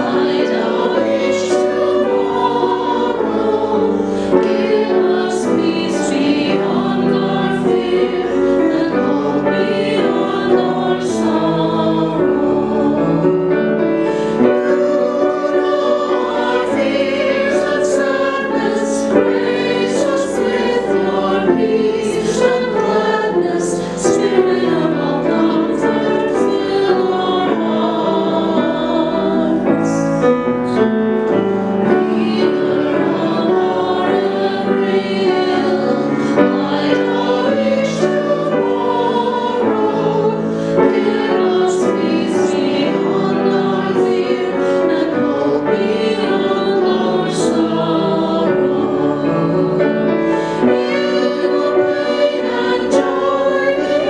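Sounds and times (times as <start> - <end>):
grand piano: 0.0 - 54.0
man and woman singing a hymn: 0.0 - 54.0.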